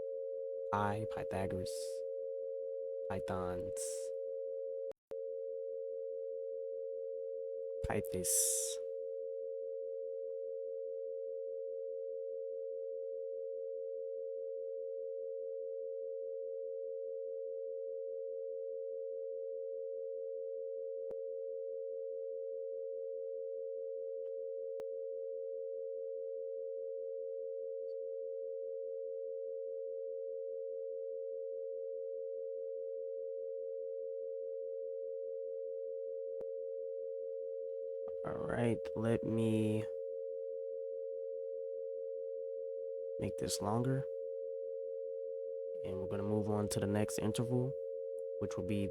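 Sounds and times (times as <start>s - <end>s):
two steady sine tones: 0.0s - 48.9s.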